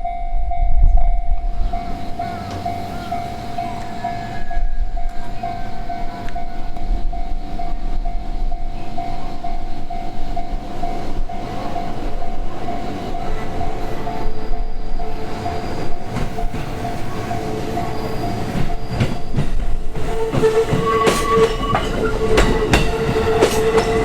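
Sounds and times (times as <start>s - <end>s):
level crossing bell ringing: 0.0s - 19.3s
train rumbling past: 0.0s - 24.0s.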